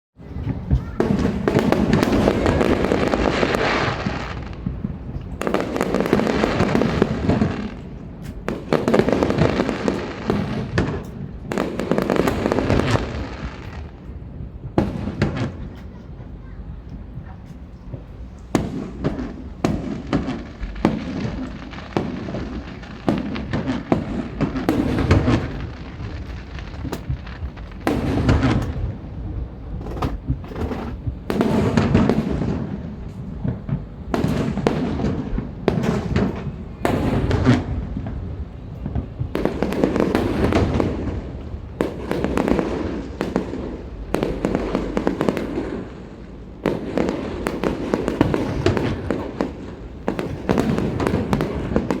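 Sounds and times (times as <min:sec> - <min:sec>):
fireworks bangs and booms: 0:00.2 - 0:52.0
fireworks crackle: 0:00.2 - 0:52.0.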